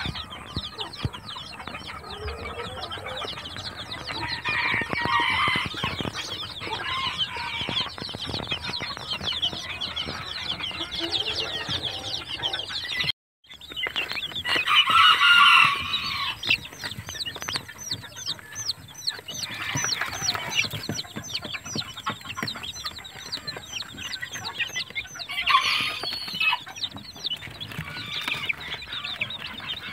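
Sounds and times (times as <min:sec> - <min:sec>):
chicks peeping: 0:00.0 - 0:29.9.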